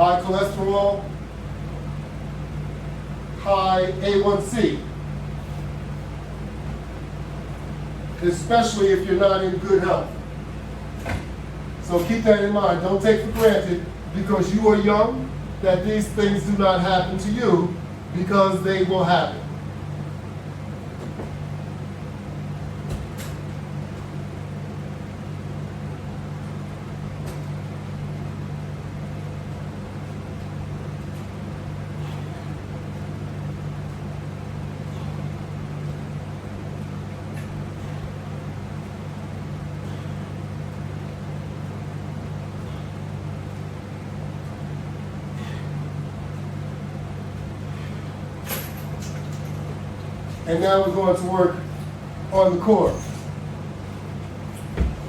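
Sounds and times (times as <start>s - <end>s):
low room hum: 0.0s - 55.0s.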